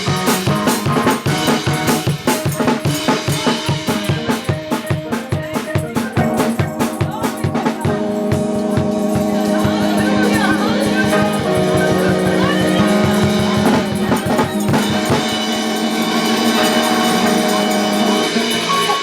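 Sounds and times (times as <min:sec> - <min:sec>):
drum kit beat: 0:00.0 - 0:19.0
sustained band chords: 0:00.0 - 0:19.0.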